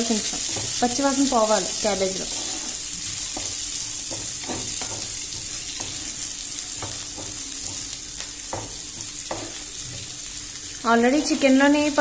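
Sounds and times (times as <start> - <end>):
vegetables sizzling in oil: 0.0 - 12.0
spatula scraping pan: 0.3 - 12.0.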